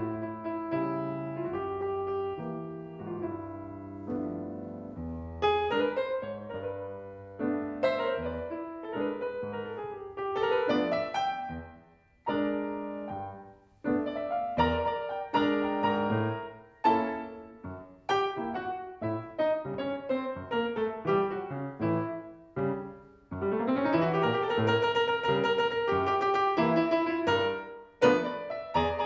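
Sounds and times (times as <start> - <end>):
grand piano chords: 0.0 - 29.0.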